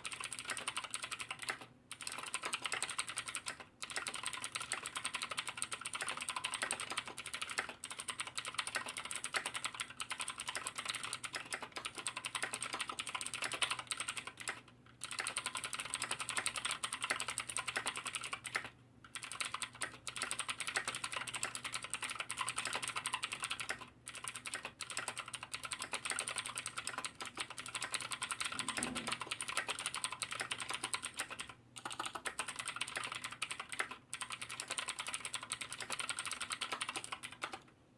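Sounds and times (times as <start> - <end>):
fast mechanical keyboard typing: 0.0 - 37.7.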